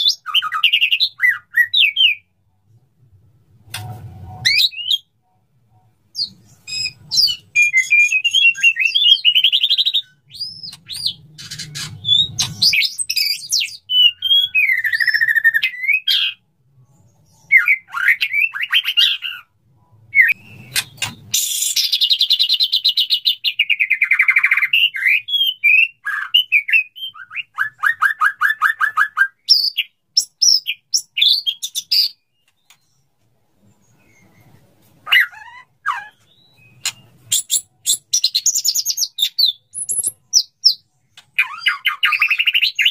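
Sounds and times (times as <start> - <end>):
bird singing whistles and trills: 0.0 - 2.3, 4.4 - 5.2, 6.1 - 16.4, 17.0 - 19.5, 20.1 - 33.0, 33.8 - 42.9.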